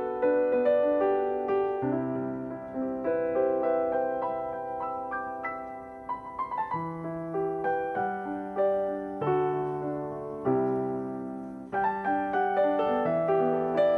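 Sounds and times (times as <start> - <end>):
gentle piano chords: 0.0 - 13.9.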